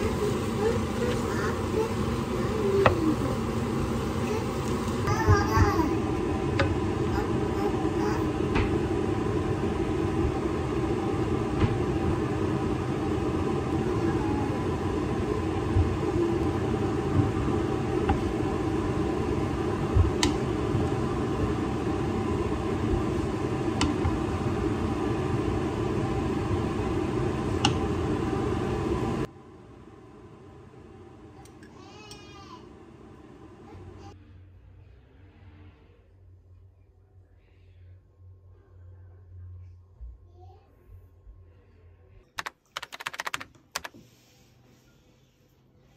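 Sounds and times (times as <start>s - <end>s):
kitchen machine hum: 0.0s - 36.6s, 42.1s - 45.9s.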